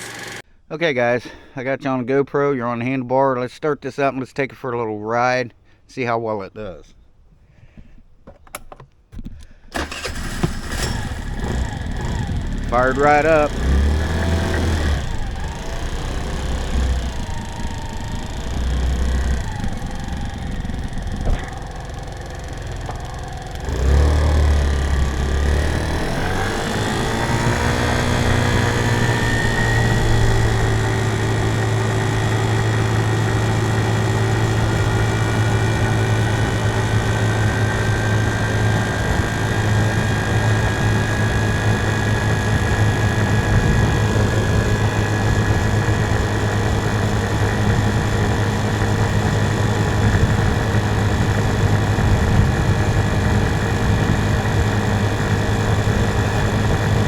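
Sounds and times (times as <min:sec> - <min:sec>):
scooter engine running: 0:00.0 - 0:00.4, 0:09.7 - 0:57.0.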